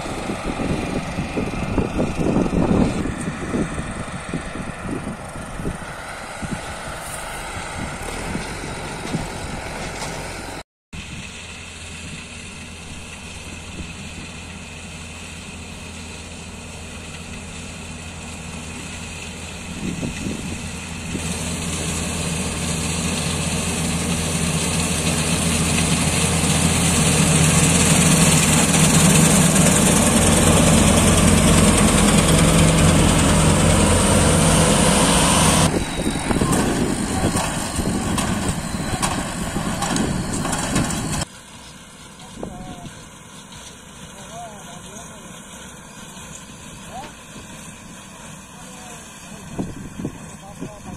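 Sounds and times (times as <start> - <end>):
combine harvester running: 0.0 - 50.9
rough uneven machine noise: 0.0 - 50.9.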